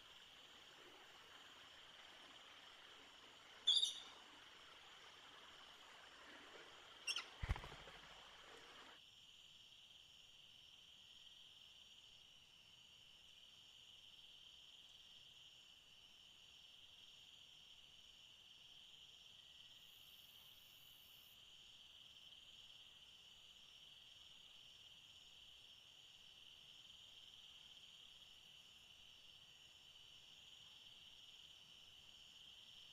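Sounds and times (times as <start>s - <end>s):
insect chorus trilling: 0.0s - 32.9s.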